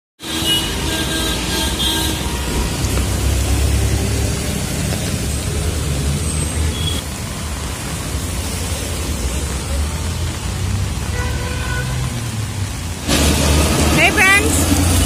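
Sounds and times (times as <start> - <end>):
heavy rain on wet street: 0.2 - 15.0.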